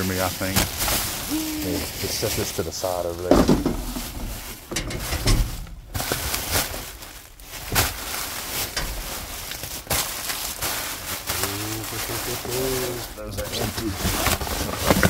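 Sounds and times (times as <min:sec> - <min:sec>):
bags and packaging rustling: 0:00.0 - 0:15.0
knocks and crunches of items: 0:00.0 - 0:15.0.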